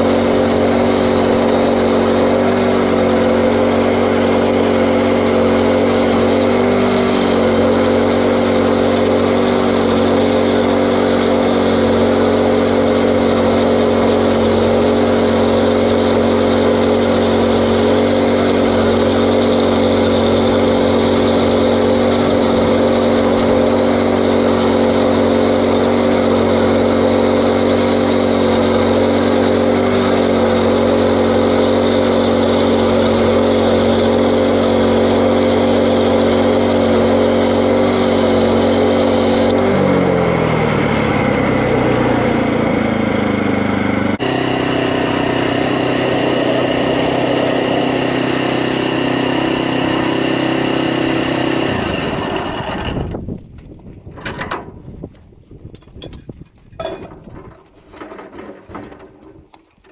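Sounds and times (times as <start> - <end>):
band saw cutting log: 0.0 - 53.2
petrol engine running: 0.0 - 53.2.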